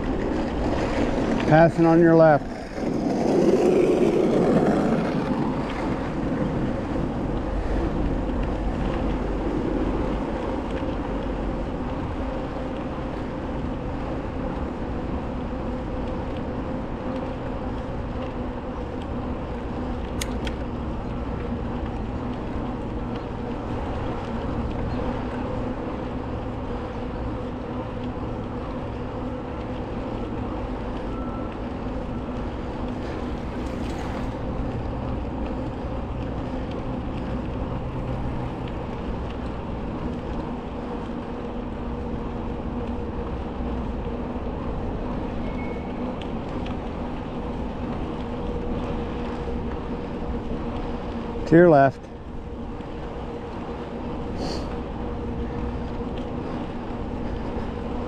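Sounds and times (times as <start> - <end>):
bicycle rolling: 0.0 - 58.0.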